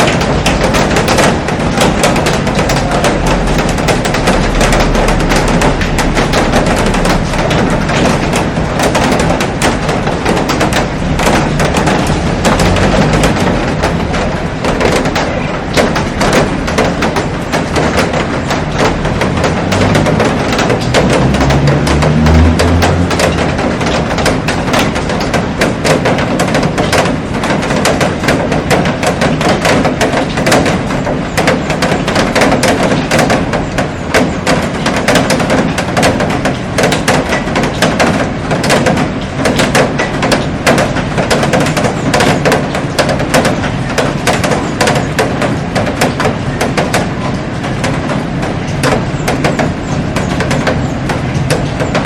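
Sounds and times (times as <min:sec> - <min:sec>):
heavy rain on glass roof: 0:00.0 - 0:52.0.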